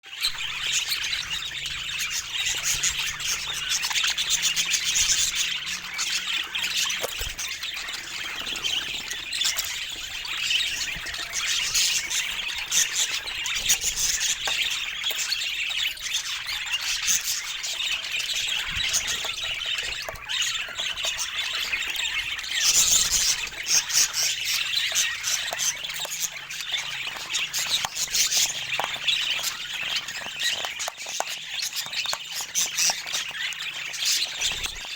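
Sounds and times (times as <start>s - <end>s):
budgerigar chirping and squawking: 0.0s - 34.9s.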